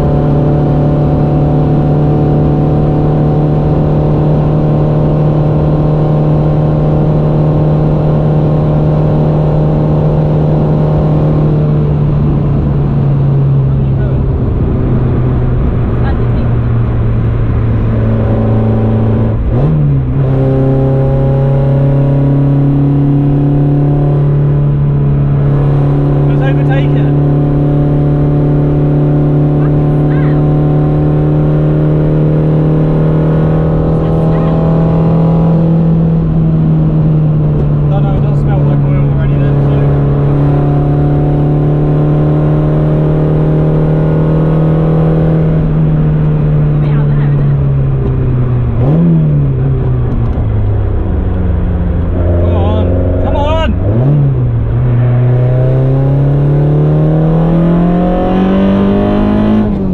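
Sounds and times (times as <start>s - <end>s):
car engine revving under load: 0.0s - 59.9s
road and tyre noise: 0.0s - 59.9s.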